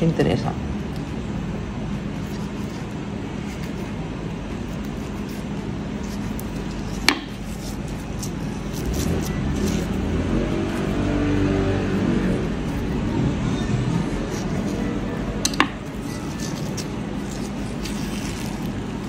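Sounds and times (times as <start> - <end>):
faint steady hum: 0.0 - 19.0
steady low rumble: 0.5 - 19.0.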